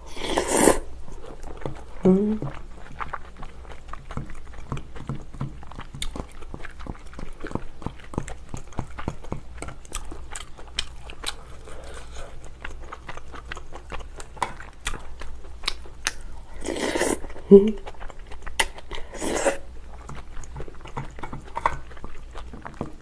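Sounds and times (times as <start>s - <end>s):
close chewing and biting: 0.3s - 23.0s.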